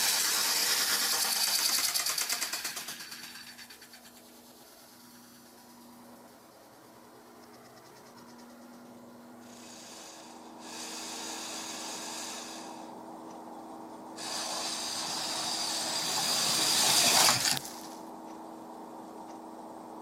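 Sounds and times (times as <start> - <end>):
slot car motor whirring: 0.0 - 8.8, 9.4 - 13.0, 14.2 - 18.1.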